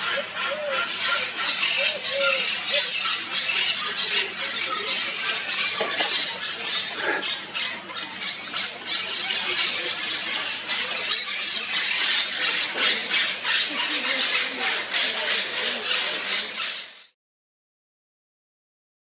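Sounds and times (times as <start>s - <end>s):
parakeets calling: 0.0s - 17.1s.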